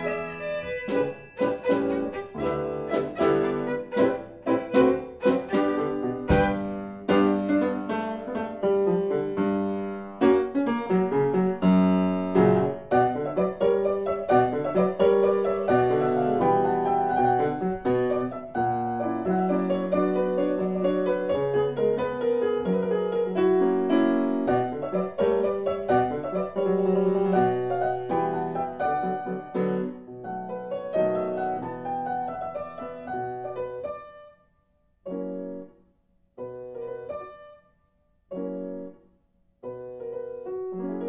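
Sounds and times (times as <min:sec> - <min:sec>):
silent film piano music: 0:00.0 - 0:41.0.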